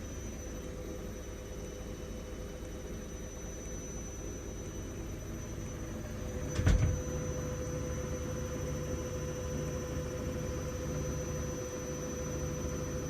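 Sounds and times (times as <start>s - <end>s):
washing machine spin rumble: 0.0s - 13.0s.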